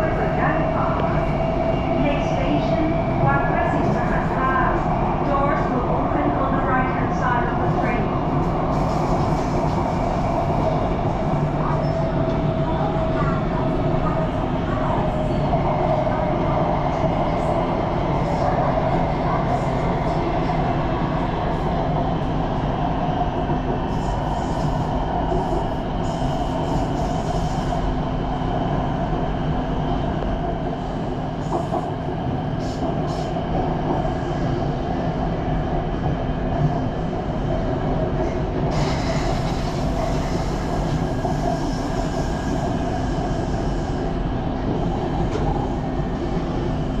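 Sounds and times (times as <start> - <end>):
train wheels and motors rumbling: 0.0 - 47.0.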